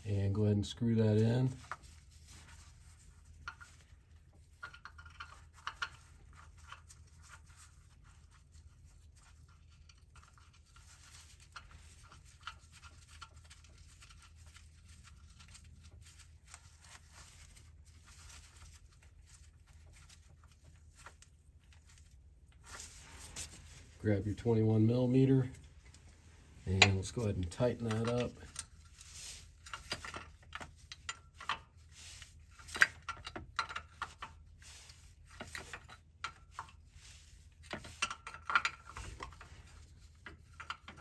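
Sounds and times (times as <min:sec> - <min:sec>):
small clicks and scrapes: 0:01.5 - 0:24.0, 0:25.5 - 0:41.0.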